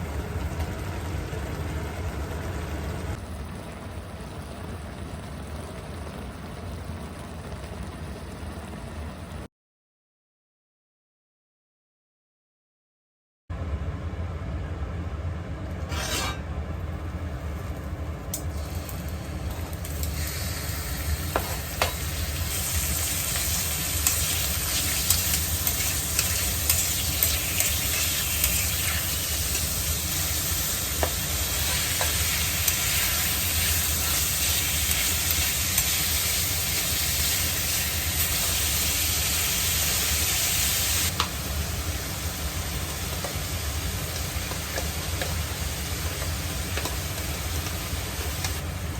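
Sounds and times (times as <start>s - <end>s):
food sizzling in frying pan: 0.0s - 9.4s, 17.3s - 48.9s.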